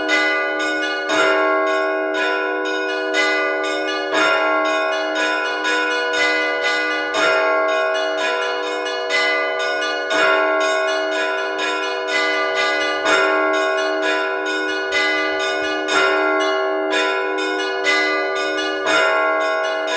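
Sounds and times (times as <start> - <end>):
heavy bell strikes: 0.0 - 19.9
small church bells ringing: 0.0 - 19.9.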